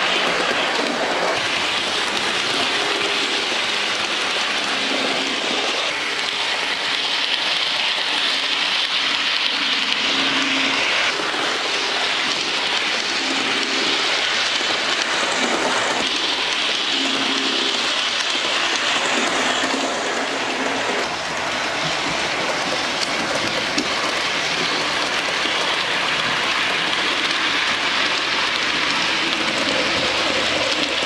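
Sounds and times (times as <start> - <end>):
model train wheels hissing on track: 0.0 - 31.0.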